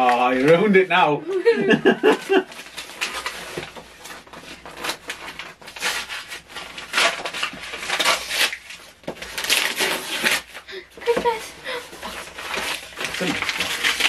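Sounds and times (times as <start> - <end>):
paper tearing and crumpling: 0.0 - 0.7, 2.0 - 14.0.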